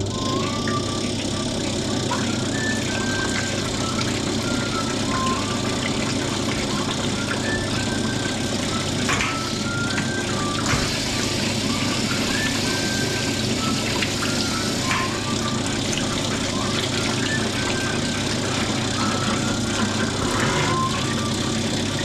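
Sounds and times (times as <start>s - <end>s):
honing machine running: 0.0s - 22.0s.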